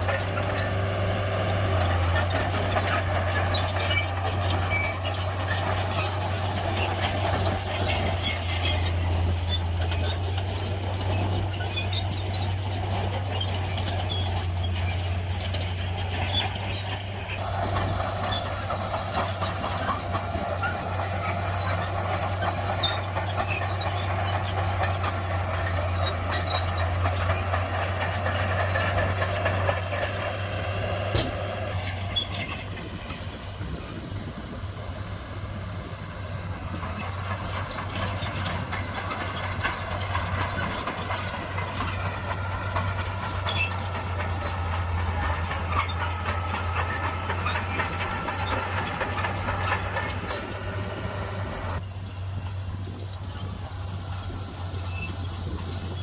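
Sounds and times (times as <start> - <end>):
diesel machinery engine drone: 0.0 - 56.0
metal clanks and squeaks: 0.0 - 56.0.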